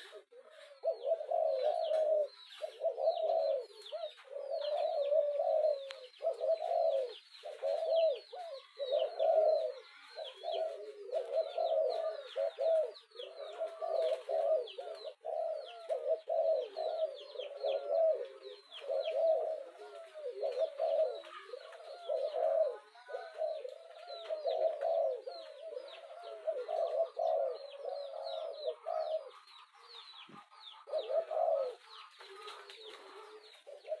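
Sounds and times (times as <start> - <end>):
dove cooing: 0.0 - 34.0
small birds chirping: 0.0 - 34.0.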